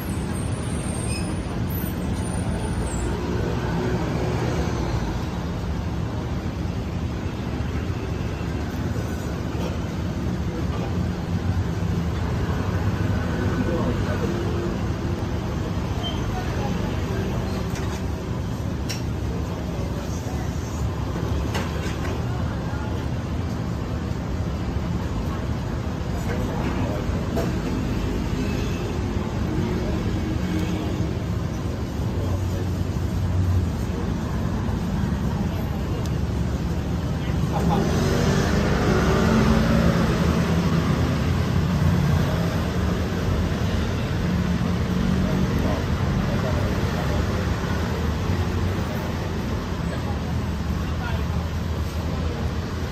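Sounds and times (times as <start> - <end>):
street traffic rumble: 0.0 - 52.9.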